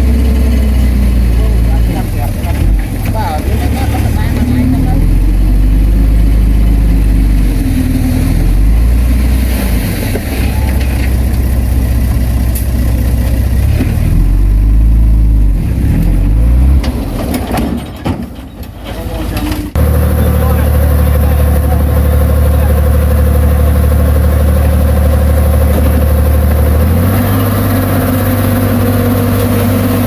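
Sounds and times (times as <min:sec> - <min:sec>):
heavy diesel engine working: 0:00.0 - 0:30.0.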